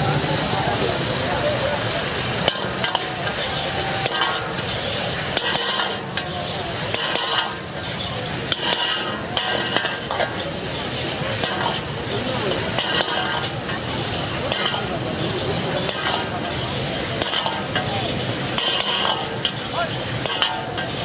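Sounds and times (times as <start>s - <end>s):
chicken sizzling in a pan: 0.0s - 21.0s
utensil scraping a pan: 2.4s - 21.0s.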